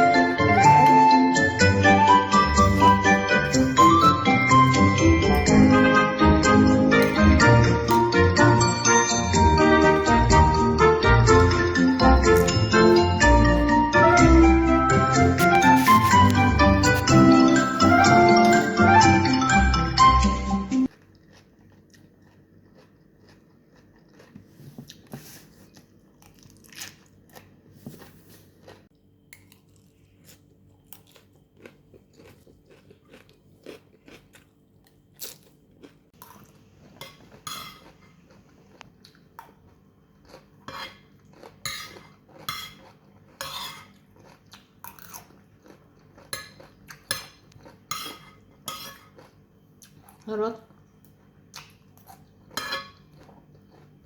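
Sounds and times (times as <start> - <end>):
crunching and chewing food: 0.0 - 8.6, 15.0 - 18.8, 20.8 - 54.0.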